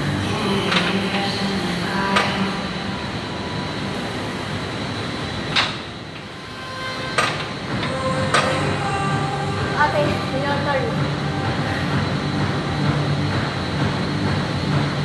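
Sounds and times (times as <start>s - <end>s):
gym room noise: 0.0s - 15.0s.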